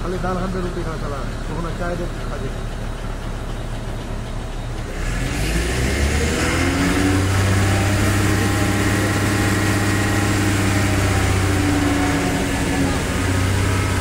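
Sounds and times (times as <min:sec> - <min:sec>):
crane diesel engine revving: 0:00.0 - 0:14.0.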